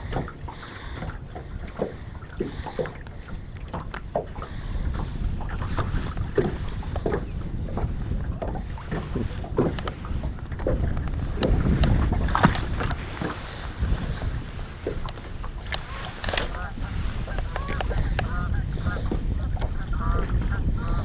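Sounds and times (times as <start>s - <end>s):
water slapping against boat hull: 0.0s - 21.0s
wind buffeting microphone: 0.0s - 21.0s.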